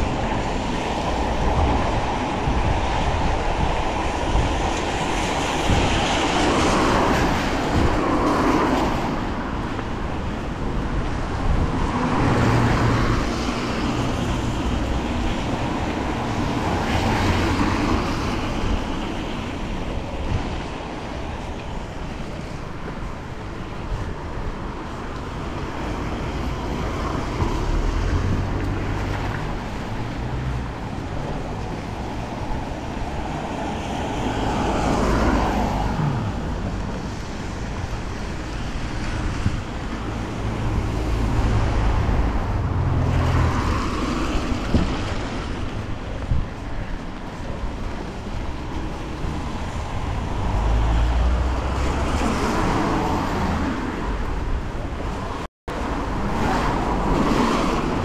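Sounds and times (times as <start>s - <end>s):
cars passing on wet road: 0.0s - 58.0s
wind rumble on microphone: 0.0s - 58.0s.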